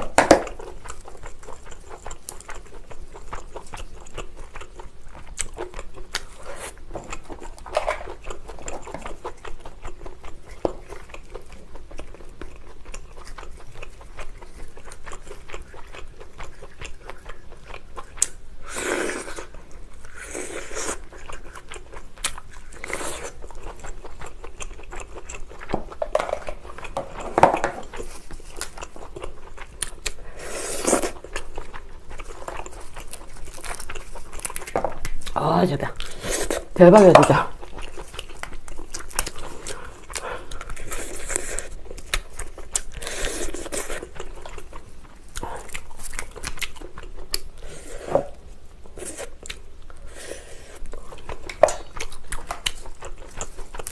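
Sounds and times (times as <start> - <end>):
chewing and crunching: 0.0 - 53.9.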